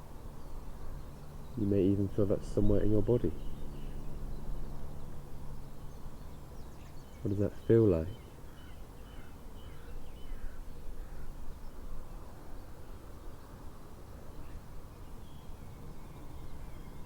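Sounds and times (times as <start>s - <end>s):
distant bird calls: 0.0s - 17.0s
low background noise: 0.0s - 17.0s.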